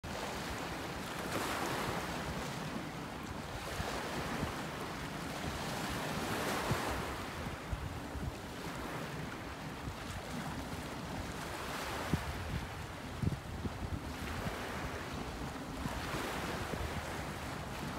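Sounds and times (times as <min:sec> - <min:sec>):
wind buffeting microphone: 0:03.4 - 0:17.9.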